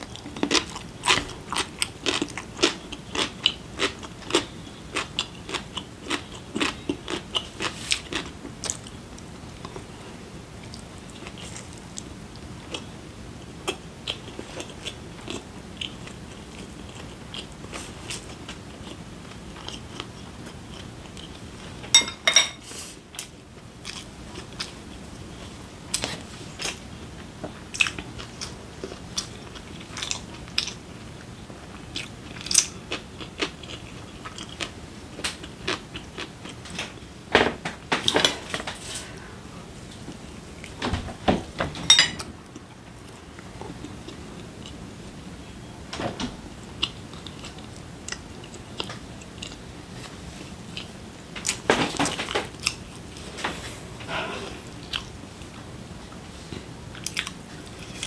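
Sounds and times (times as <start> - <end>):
chewing and crunching food: 0.0 - 37.2, 42.3 - 44.9, 46.5 - 58.0.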